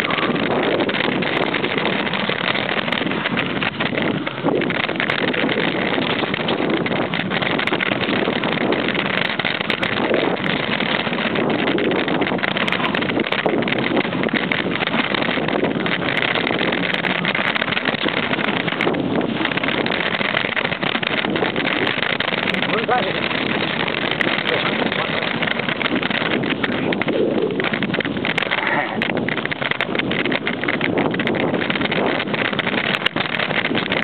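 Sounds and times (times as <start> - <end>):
bike tyres on dirt trail: 0.0 - 34.0
wind rushing over microphone: 0.0 - 34.0.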